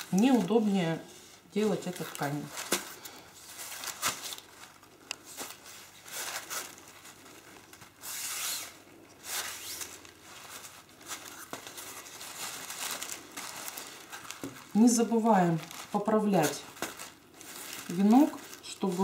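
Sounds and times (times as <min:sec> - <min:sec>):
paper and fabric rustling: 0:00.0 - 0:19.0.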